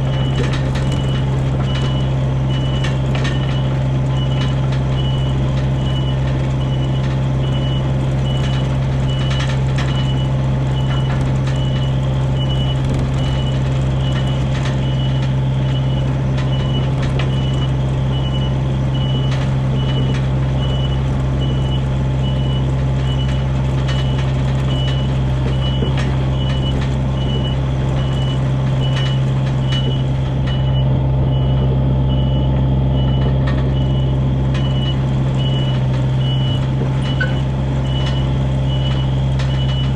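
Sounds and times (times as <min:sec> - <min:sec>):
diesel engine running: 0:00.0 - 0:39.9
backup alarm beeping: 0:00.1 - 0:39.9.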